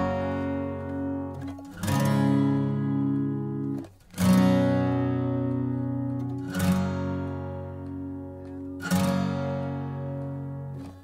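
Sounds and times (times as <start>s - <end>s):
strummed guitar chords: 0.0s - 11.0s.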